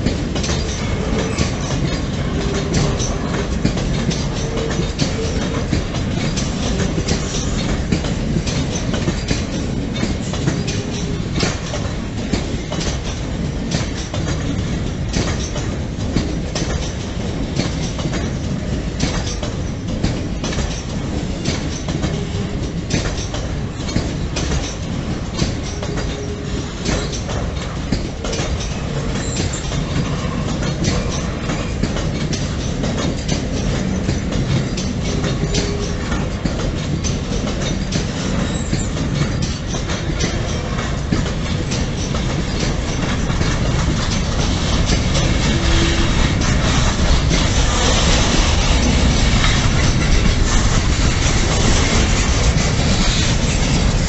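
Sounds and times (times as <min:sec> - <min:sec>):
freight train wheels rumbling: 0:00.0 - 0:54.0
wheels clicking over rail joints: 0:00.0 - 0:54.0.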